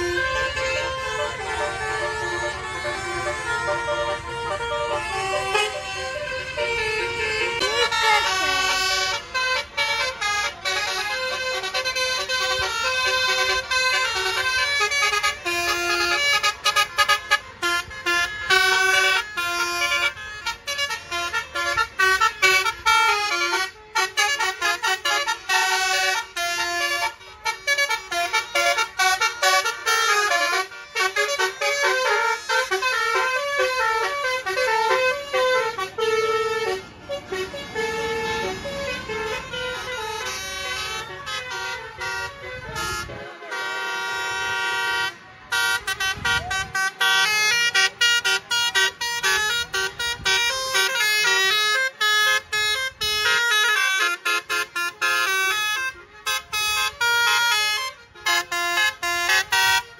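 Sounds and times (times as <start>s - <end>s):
bus horns playing melodies: 0.0s - 59.9s.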